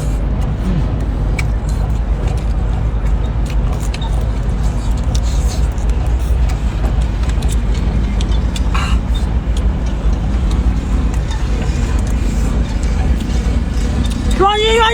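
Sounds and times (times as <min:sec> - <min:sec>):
low engine rumble: 0:00.0 - 0:14.9.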